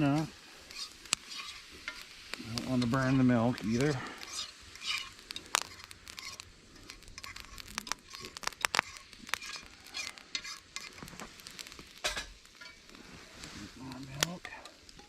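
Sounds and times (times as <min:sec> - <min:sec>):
roux sizzling in frying pan: 0:00.0 - 0:15.0
sharp clicks and crackles: 0:00.0 - 0:15.0.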